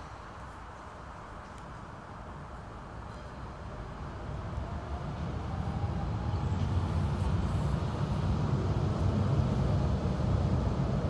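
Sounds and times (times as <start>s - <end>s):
low rumble of passing traffic: 0.0s - 11.0s.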